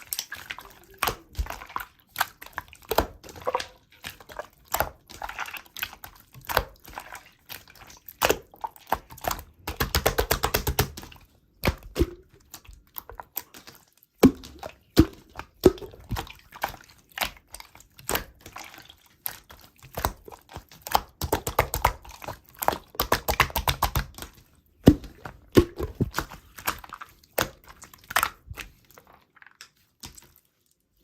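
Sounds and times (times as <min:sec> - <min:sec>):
slime squishing by hand: 0:00.0 - 0:31.0.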